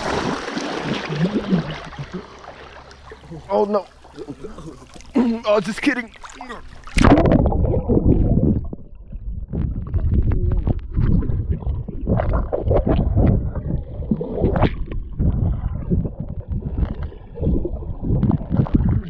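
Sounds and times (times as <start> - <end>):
underwater current rumble and gurgling: 0.0 - 5.2, 5.8 - 19.0.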